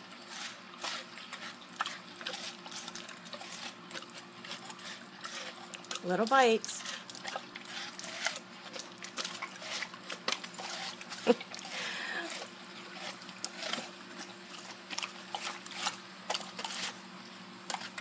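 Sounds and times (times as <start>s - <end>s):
dogs crunching watermelon: 0.0s - 18.0s.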